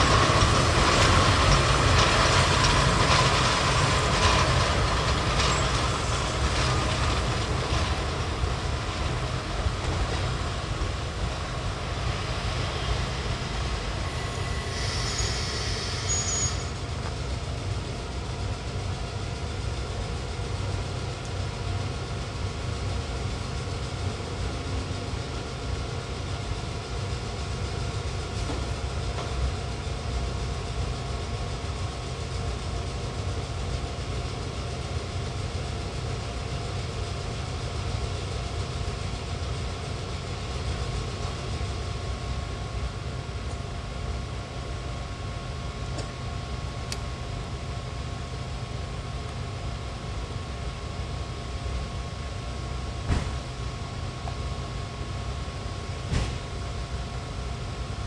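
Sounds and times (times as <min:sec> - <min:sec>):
electric locomotive humming: 0:00.0 - 0:58.0.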